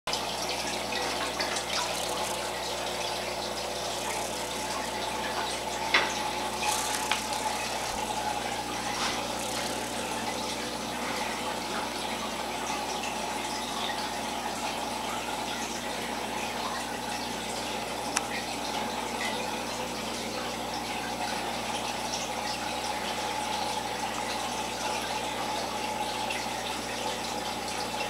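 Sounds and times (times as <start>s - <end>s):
aquarium water bubbling: 0.1s - 28.0s.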